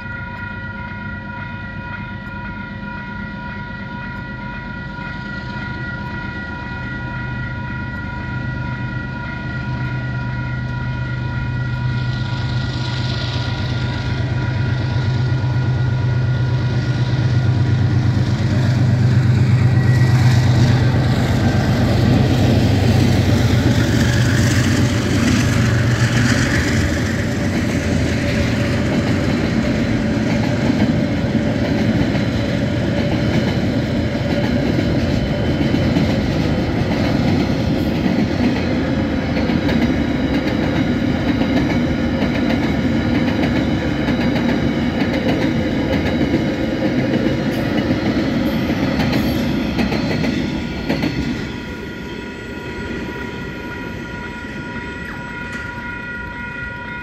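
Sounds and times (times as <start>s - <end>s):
diesel locomotive engines droning: 0.0s - 57.0s
train wheels rolling on rails: 0.0s - 57.0s.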